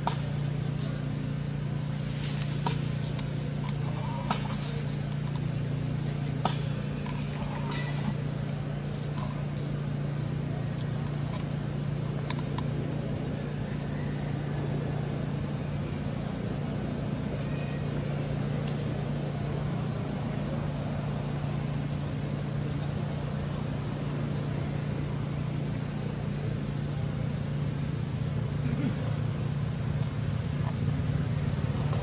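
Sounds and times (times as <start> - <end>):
low motor hum: 0.0 - 32.0.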